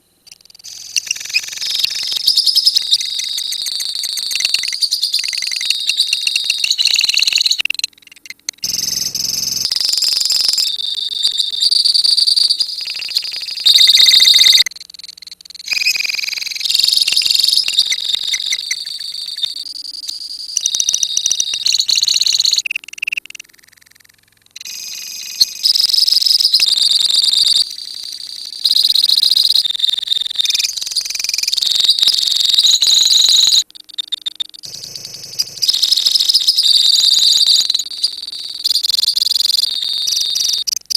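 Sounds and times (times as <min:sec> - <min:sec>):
lovebirds chattering in shrill trills: 0:00.6 - 0:07.8, 0:08.6 - 0:40.9.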